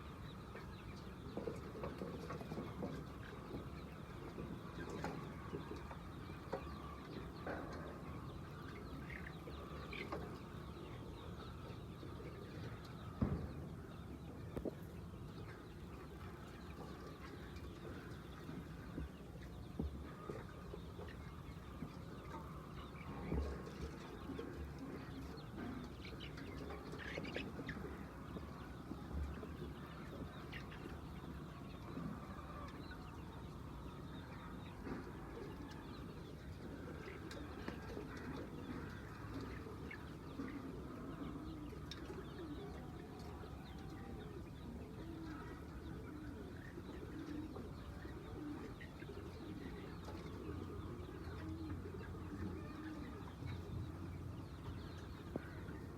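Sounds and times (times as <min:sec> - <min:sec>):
hens clucking: 0:00.0 - 0:55.9.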